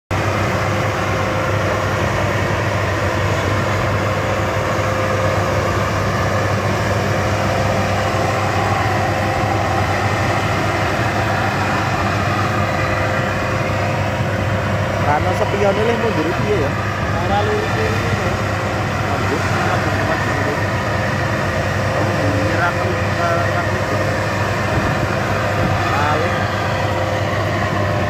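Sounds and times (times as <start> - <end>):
combine harvester engine drone: 0.1 - 28.0
steady tone: 0.1 - 28.0.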